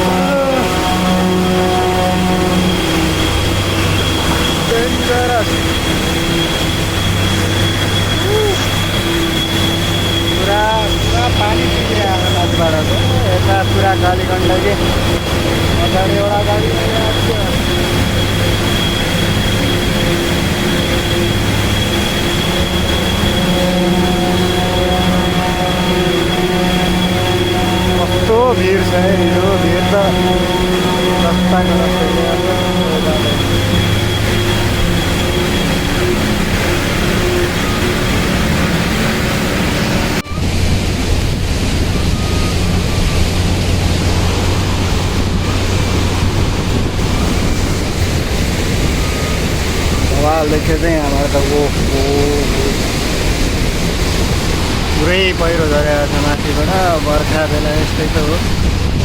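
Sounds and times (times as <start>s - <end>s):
road and wind rushing: 0.0s - 59.0s
thin high whine: 0.0s - 59.0s
truck engine under load: 0.0s - 59.0s.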